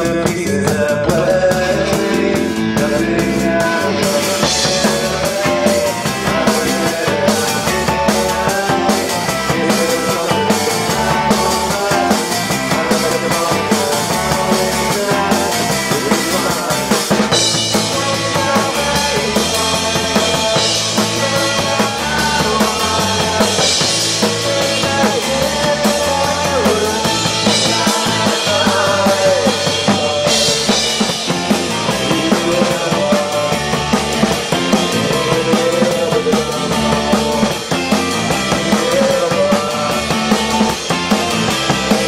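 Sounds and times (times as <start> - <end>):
bass guitar: 0.0 - 42.0
drum kit: 0.0 - 42.0
electric guitar: 0.0 - 42.0.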